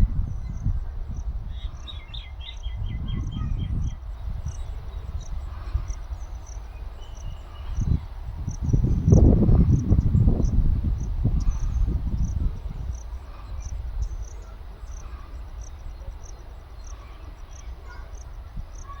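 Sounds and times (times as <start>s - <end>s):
cricket chirping: 0.3s - 19.0s.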